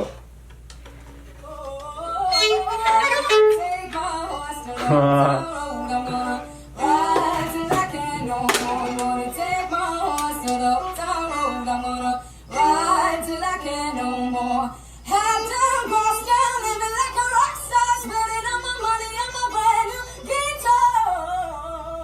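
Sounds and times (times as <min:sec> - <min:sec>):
woman singing slow melody: 0:01.4 - 0:22.0
violin: 0:02.2 - 0:21.6.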